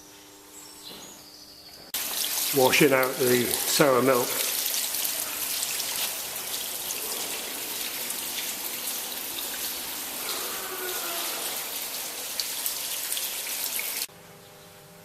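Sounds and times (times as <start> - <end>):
water spraying and splashing: 2.0 - 14.1.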